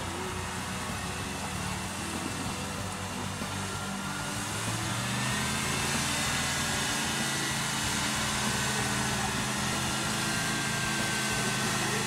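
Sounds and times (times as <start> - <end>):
buggy engine running at low revs: 0.0 - 12.0
faint high whine: 0.0 - 12.0.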